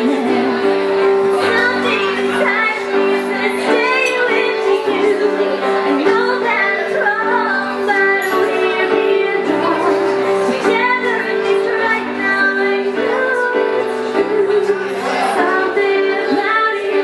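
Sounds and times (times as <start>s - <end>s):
digital piano chords: 0.0s - 17.0s
woman singing into a microphone: 0.0s - 17.0s.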